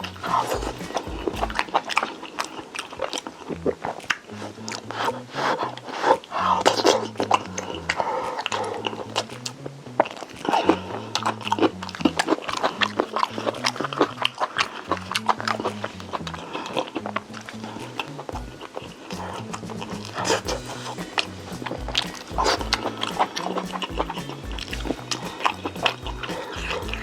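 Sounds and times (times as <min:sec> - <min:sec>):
background music with bass: 0:00.0 - 0:01.8, 0:03.5 - 0:27.0.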